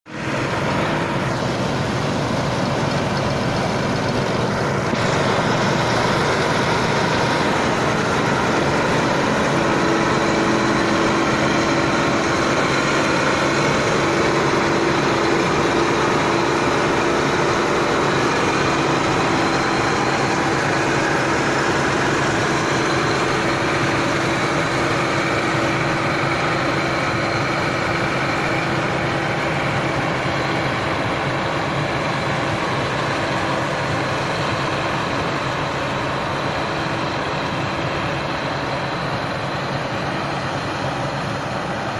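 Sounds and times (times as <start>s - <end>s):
combine harvester running: 0.1s - 41.9s.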